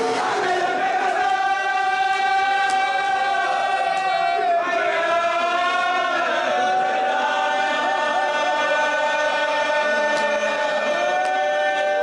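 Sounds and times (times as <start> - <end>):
men chanting unaccompanied: 0.0 - 12.0.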